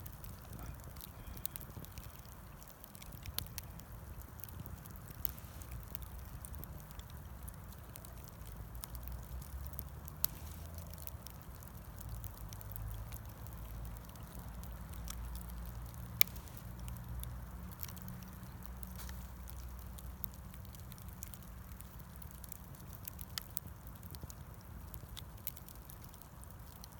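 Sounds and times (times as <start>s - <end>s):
bonfire crackling and popping: 0.0s - 26.9s.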